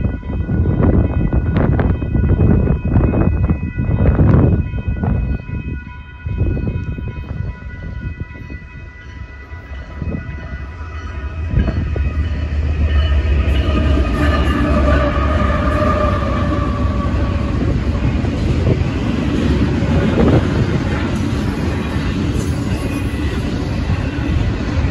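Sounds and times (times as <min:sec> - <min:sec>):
diesel locomotive engine rumble: 0:00.0 - 0:24.9
railroad crossing bells ringing: 0:00.0 - 0:24.9
train horn long blast: 0:00.0 - 0:24.9
train running through crossing: 0:00.0 - 0:24.9.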